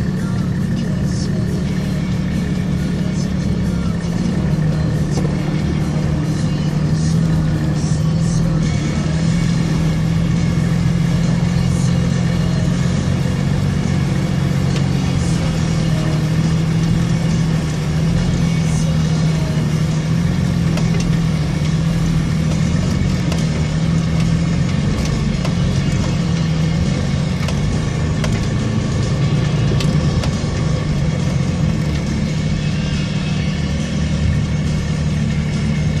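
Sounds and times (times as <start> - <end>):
vehicle engine droning: 0.0 - 36.0.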